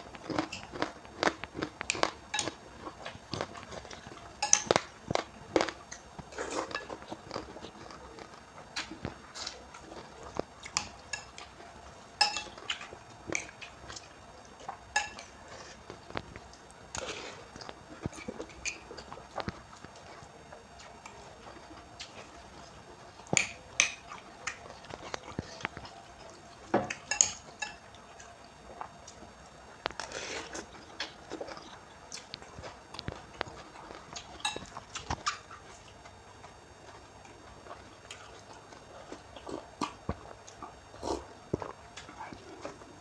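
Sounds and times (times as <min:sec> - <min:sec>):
chewing sounds: 0:00.0 - 0:43.0.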